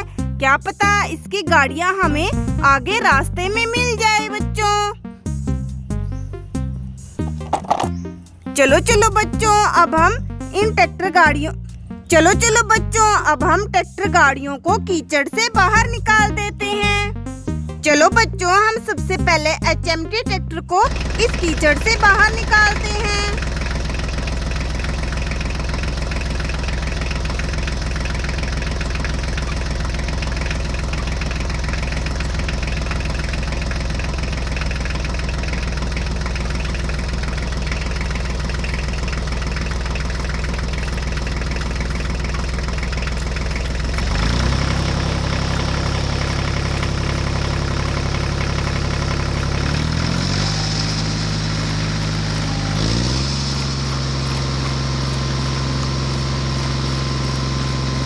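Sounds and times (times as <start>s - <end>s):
heavy vehicle engine idling and revving: 0.0s - 58.0s.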